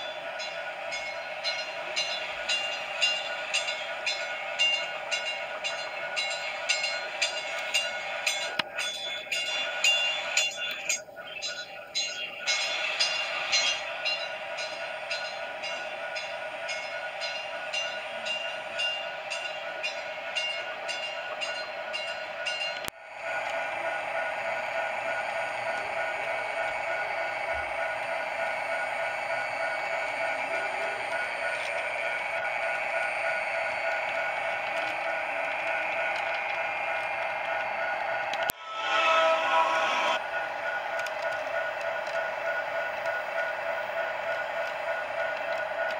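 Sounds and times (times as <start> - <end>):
freight train rolling past: 0.0 - 45.9
model train motor hum: 0.0 - 45.9.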